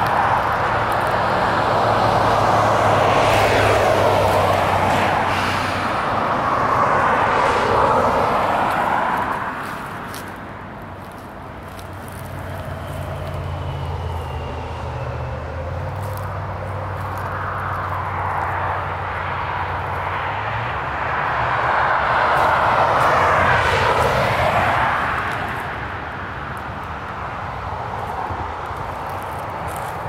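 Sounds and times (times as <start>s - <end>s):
engine passing by: 0.0s - 30.0s.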